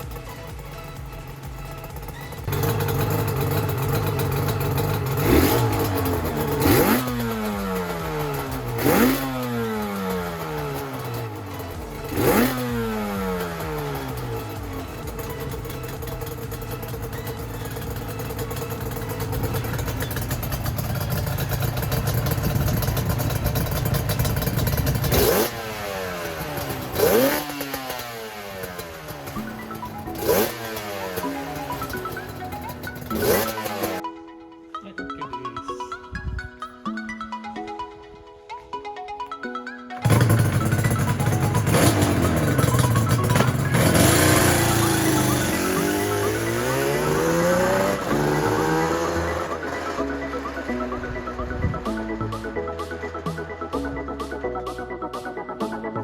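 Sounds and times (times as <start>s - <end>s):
two-stroke motorcycle engine revving: 0.0s - 34.0s, 40.0s - 52.6s.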